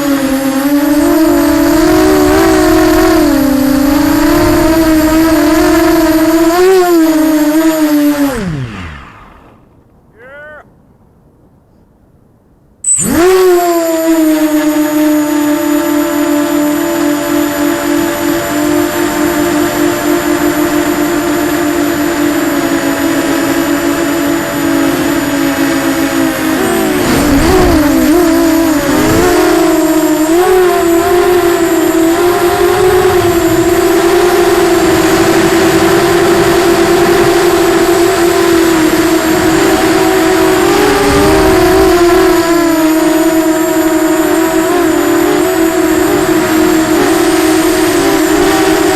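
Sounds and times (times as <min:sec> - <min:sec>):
quadcopter motors whining: 0:00.0 - 0:10.6, 0:12.8 - 0:48.9.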